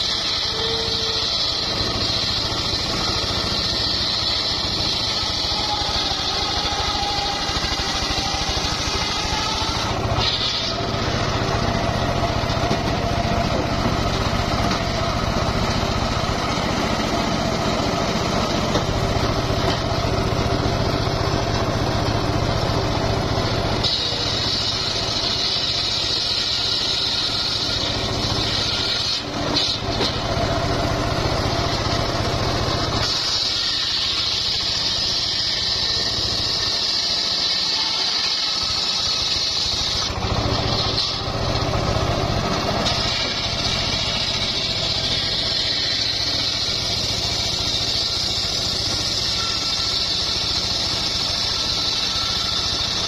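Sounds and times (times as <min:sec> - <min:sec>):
saw blade cutting wood: 0:00.0 - 0:53.0
saw engine running: 0:00.0 - 0:53.0.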